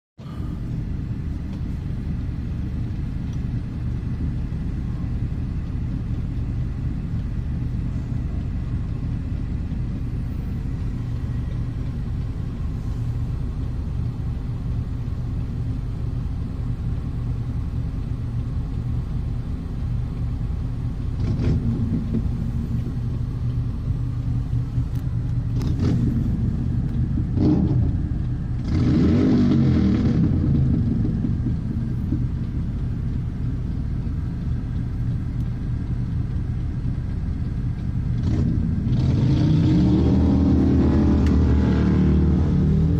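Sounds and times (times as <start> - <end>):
motorcycle engine rumbling: 0.2 - 28.8, 29.6 - 39.1.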